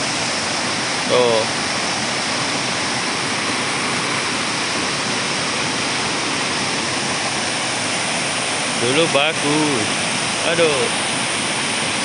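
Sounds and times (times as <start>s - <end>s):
stream running over stones: 0.0s - 12.0s
waterfalls pouring into pool: 0.0s - 12.0s.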